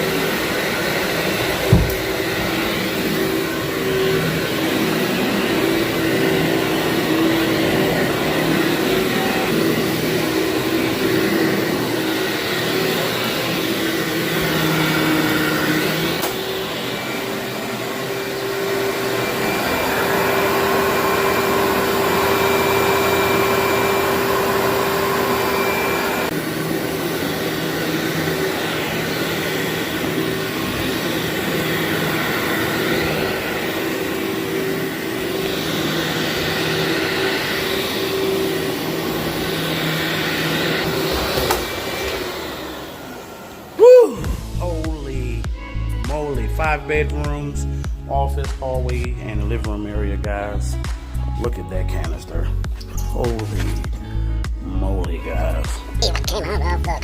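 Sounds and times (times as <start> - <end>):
vacuum cleaner on carpet: 0.0 - 57.0.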